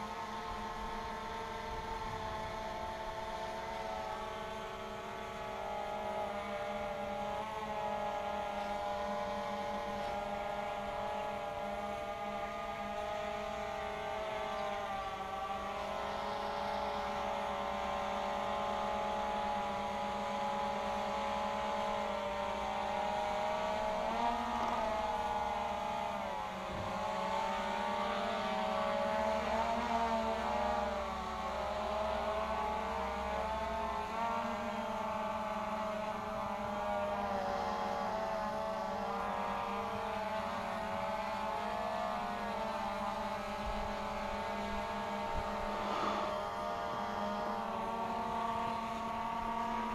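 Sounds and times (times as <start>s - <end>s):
quadcopter motors humming: 0.0s - 49.9s.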